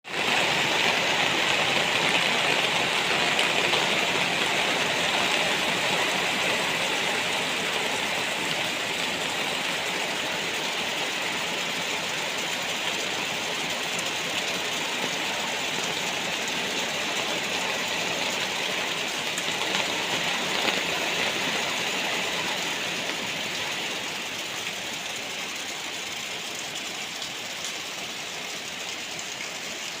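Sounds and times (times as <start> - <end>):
heavy rain falling: 0.1 - 30.0.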